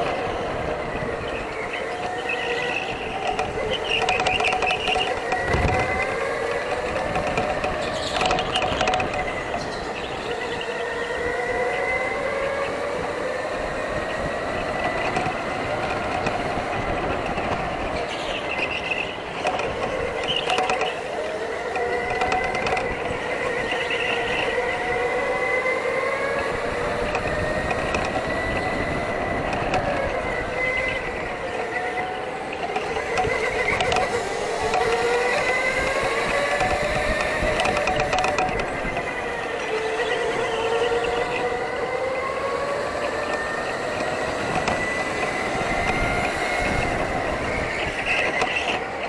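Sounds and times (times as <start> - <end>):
electric go-kart motors whining: 0.0 - 49.0.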